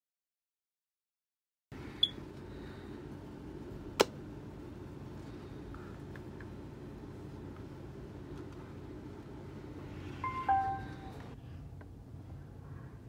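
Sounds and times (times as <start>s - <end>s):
low room hum: 1.7s - 13.0s.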